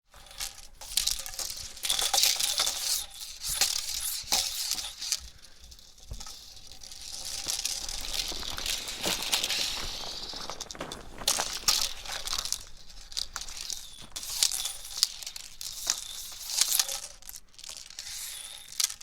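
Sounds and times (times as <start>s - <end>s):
hula hoop swishing rattle: 0.1s - 19.0s.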